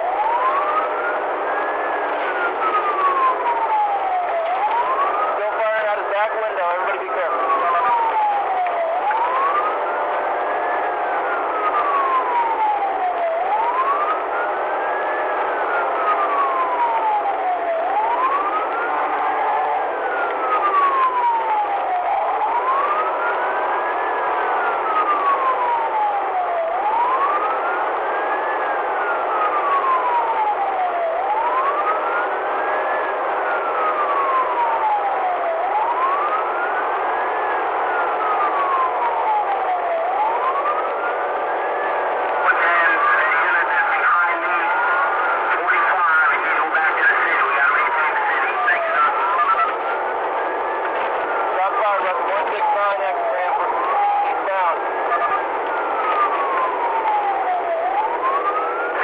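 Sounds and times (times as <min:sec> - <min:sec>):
police siren wailing: 0:00.0 - 0:59.0
road and engine noise: 0:00.0 - 0:59.0.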